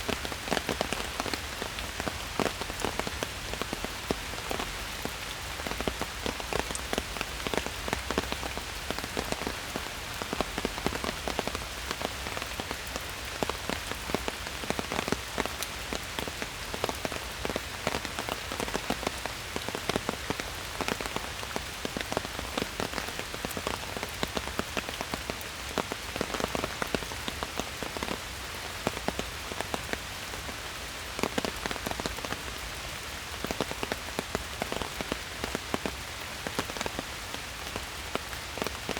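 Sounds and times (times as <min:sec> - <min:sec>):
raindrops pattering on leaves: 0:00.0 - 0:38.9
steady rain hiss: 0:00.0 - 0:38.9.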